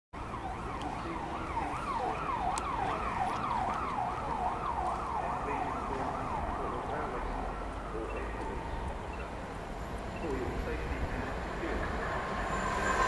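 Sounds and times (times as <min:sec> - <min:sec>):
emergency vehicle siren: 0:00.2 - 0:13.0.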